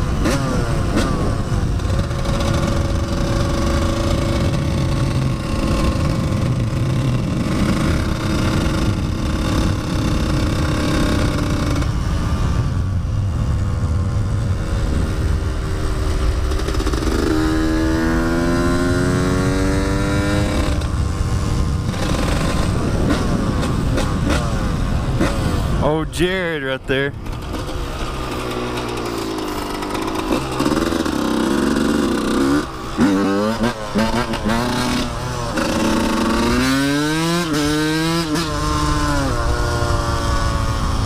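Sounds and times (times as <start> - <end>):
dirt bike engine running: 0.0 - 41.0
wind noise: 0.0 - 41.0.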